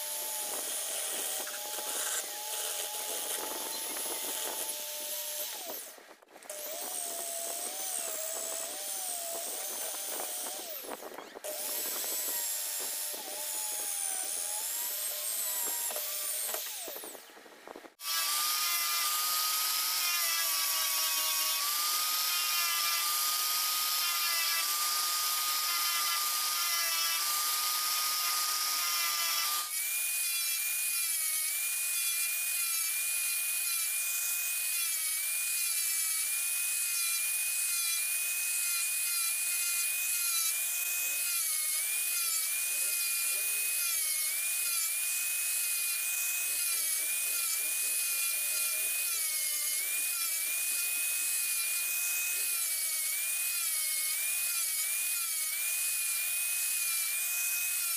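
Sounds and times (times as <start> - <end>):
angle grinder sanding wood: 0.0 - 57.9.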